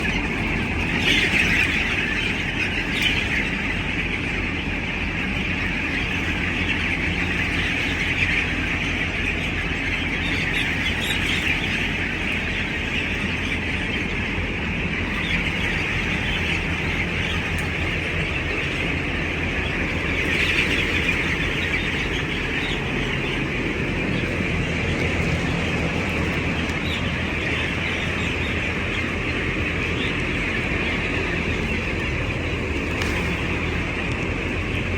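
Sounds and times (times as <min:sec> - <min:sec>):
chickens cheeping and squawking: 0:00.0 - 0:34.9
steady low rumble: 0:00.0 - 0:34.9.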